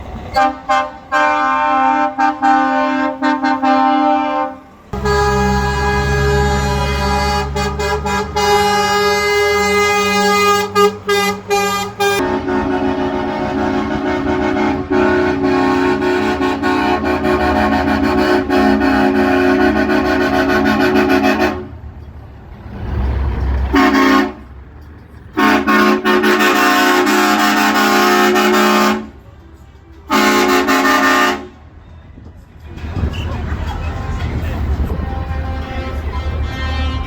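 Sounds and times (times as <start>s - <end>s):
truck air horn blasts: 0.3s - 21.8s, 23.6s - 24.6s, 25.3s - 29.2s, 30.1s - 31.7s, 33.0s - 37.0s.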